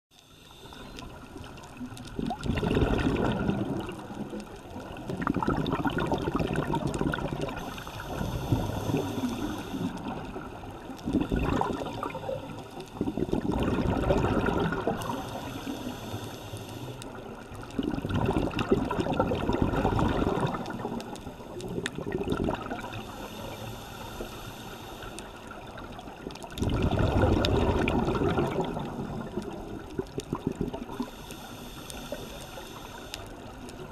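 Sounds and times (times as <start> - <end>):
exhaled bubbles underwater: 0.2 - 24.3, 25.4 - 33.9.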